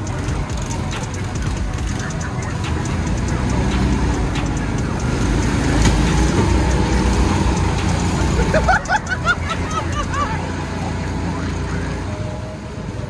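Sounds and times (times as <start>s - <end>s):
kart motor rumbling: 0.0s - 13.0s.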